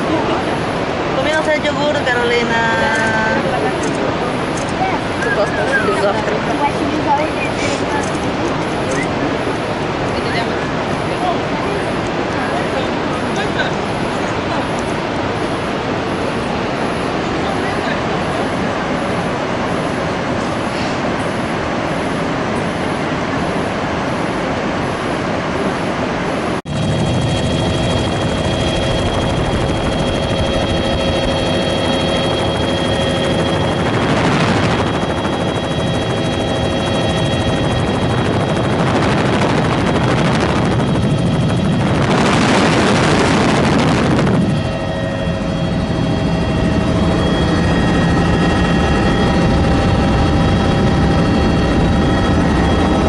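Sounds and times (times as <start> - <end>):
helicopter engine and rotor rumble: 0.0 - 53.0
helicopter whine: 0.0 - 53.0
rushing swells of noise: 0.0 - 53.0.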